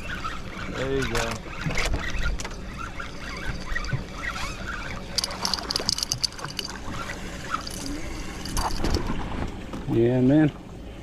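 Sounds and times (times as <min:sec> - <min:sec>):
sharp clicks and splashes: 0:00.0 - 0:09.9
water splashing and trickling: 0:00.0 - 0:11.0.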